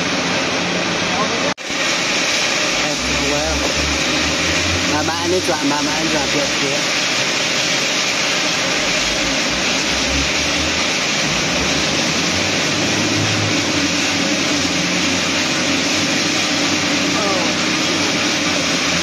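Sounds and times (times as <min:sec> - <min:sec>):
machine hiss: 0:00.0 - 0:19.0.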